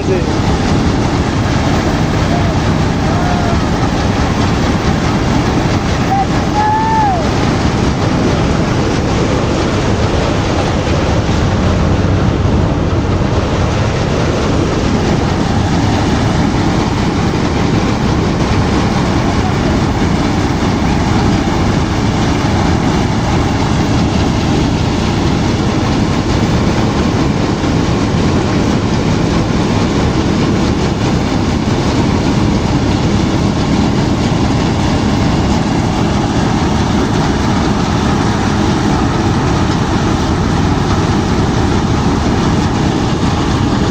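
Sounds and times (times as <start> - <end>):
threshing machine din: 0.0 - 43.9.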